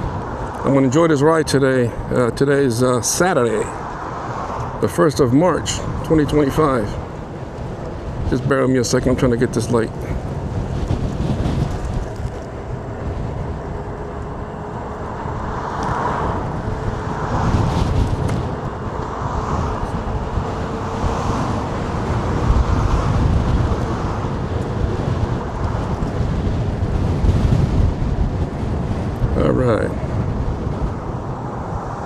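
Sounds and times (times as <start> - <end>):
road traffic passing: 0.0 - 32.0
wind buffeting microphone: 0.0 - 32.0.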